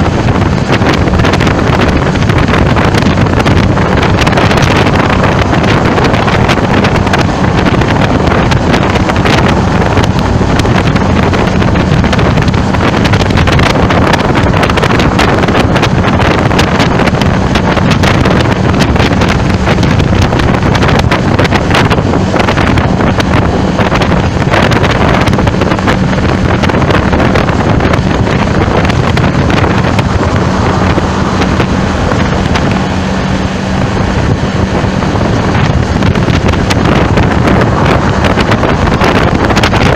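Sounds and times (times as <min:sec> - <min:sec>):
constant low hum: 0:00.0 - 0:39.9
steady traffic noise: 0:00.0 - 0:39.9
wind buffeting microphone: 0:00.0 - 0:39.9.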